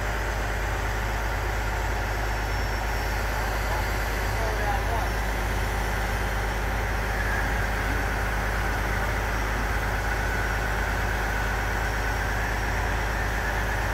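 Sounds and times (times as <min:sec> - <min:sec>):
diesel crane engine running: 0:00.0 - 0:13.9
high whine: 0:00.0 - 0:13.9.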